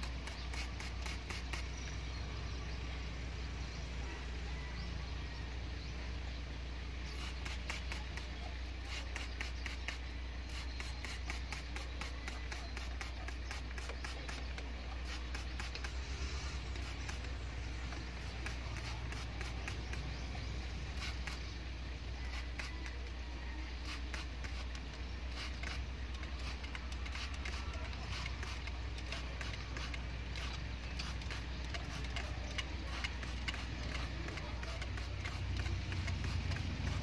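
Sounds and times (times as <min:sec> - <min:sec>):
spray bottle squirting: 0:00.0 - 0:02.0, 0:07.1 - 0:21.6, 0:22.2 - 0:23.1, 0:23.8 - 0:37.0
steady low hum: 0:00.0 - 0:37.0.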